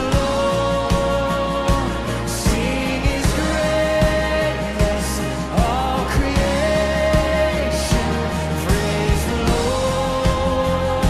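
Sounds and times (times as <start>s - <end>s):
band playing: 0.0s - 11.0s
drum beat: 0.0s - 11.0s.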